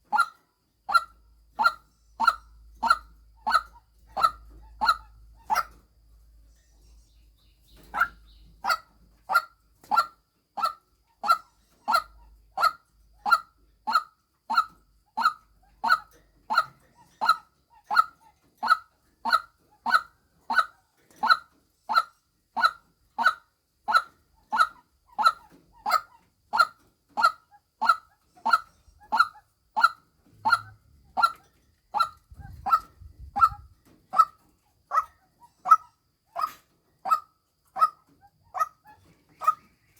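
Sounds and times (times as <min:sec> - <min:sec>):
waterhen calling: 0:00.1 - 0:05.8, 0:07.8 - 0:39.9.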